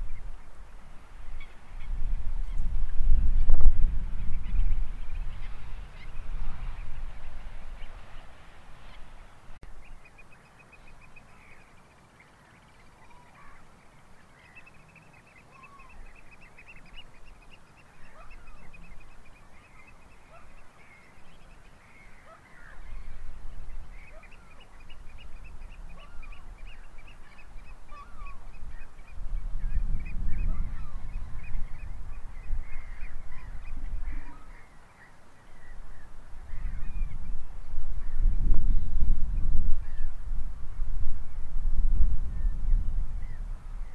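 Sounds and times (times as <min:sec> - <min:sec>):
wind buffeting microphone: 0:00.0 - 0:12.0, 0:12.7 - 0:34.8, 0:35.4 - 0:43.9
birds calling: 0:00.0 - 0:40.2.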